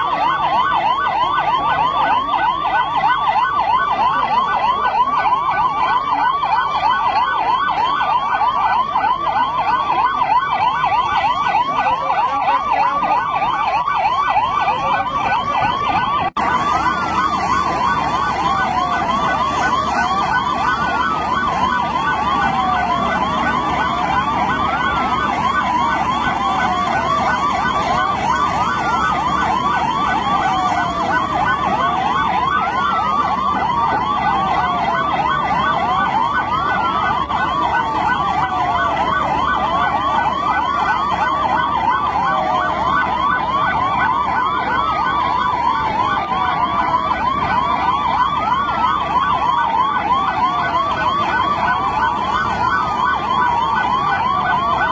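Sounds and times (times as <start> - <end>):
emergency vehicle sirens wailing: 0.0 - 54.9.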